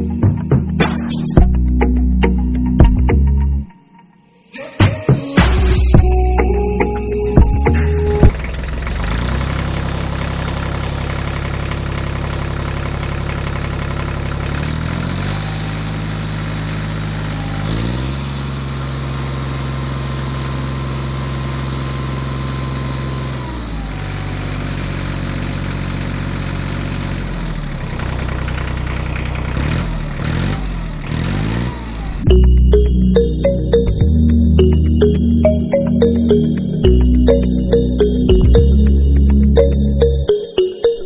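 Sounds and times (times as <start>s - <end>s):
tractor engine running: 6.0s - 40.4s.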